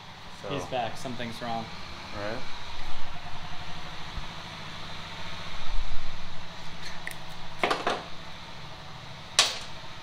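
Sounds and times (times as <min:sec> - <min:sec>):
low pulsing mechanical hum: 0:00.0 - 0:10.0.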